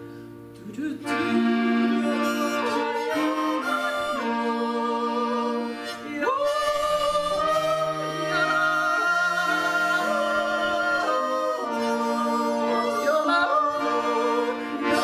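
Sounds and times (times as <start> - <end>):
soft instrumental accompaniment: 0.0 - 15.0
two women singing in harmony: 1.0 - 15.0.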